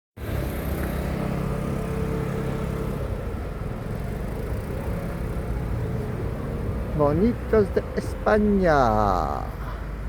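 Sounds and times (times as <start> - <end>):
vehicle engine humming: 0.2 - 10.0.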